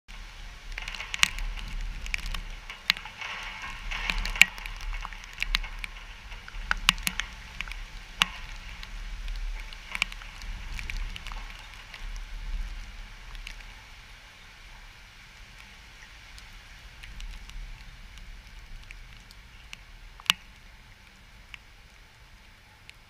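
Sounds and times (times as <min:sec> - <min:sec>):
raindrops ticking: 0:00.0 - 0:23.0
rain hissing: 0:00.1 - 0:23.0
wind rumbling on microphone: 0:00.1 - 0:23.0.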